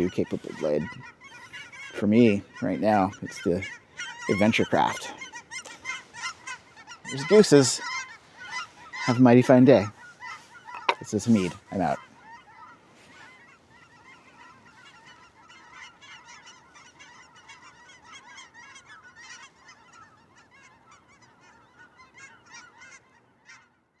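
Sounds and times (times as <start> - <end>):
geese honking: 0.0 - 23.9.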